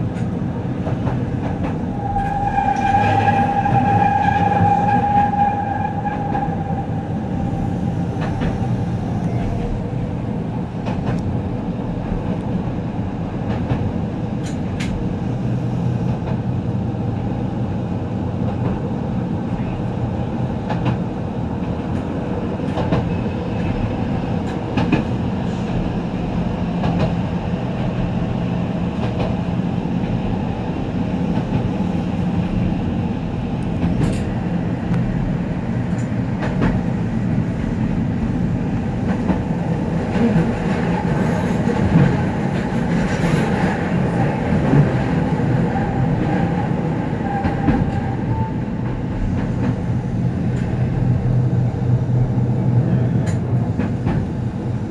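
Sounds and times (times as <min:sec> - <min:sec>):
train hum: 0:00.0 - 0:54.9
wheels rumbling on rail: 0:00.0 - 0:54.9.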